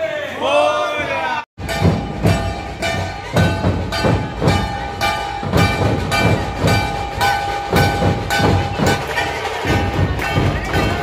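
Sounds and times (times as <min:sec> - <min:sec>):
drum troupe playing: 0:01.6 - 0:11.0.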